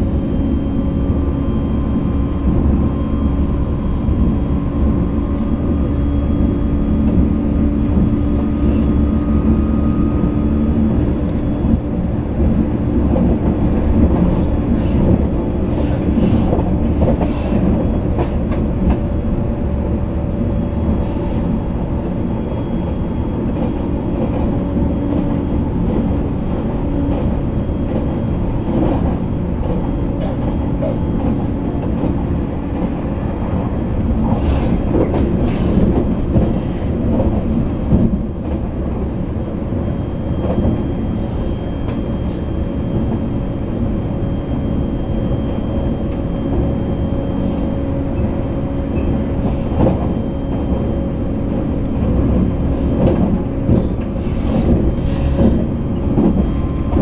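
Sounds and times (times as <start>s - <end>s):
train wheels rumbling on rail: 0.0s - 57.0s
rail joint clicks: 2.1s - 57.0s.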